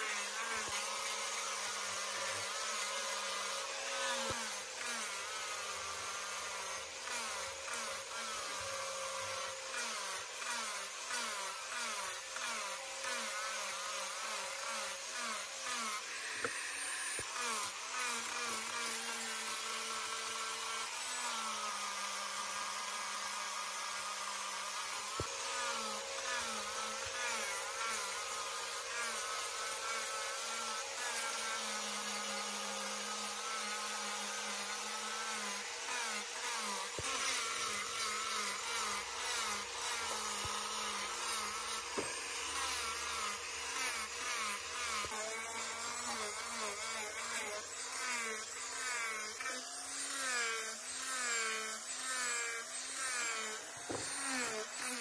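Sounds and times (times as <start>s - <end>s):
angle grinder sanding horn: 0.0s - 55.0s.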